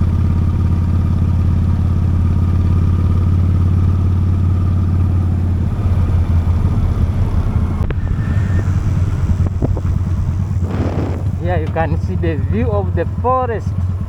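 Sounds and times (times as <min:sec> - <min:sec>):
motorcycle engine droning: 0:00.0 - 0:14.0.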